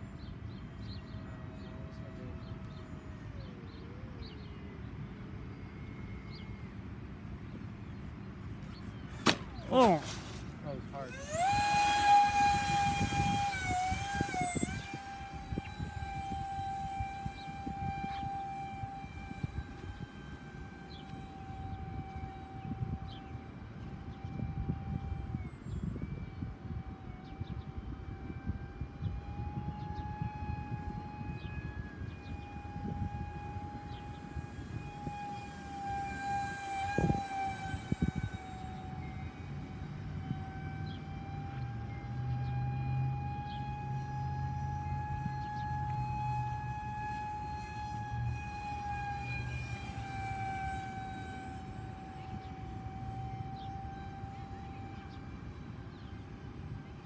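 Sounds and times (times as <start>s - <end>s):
electric ducted fan whine: 0.0s - 57.0s
wind rumble on microphone: 0.0s - 57.0s.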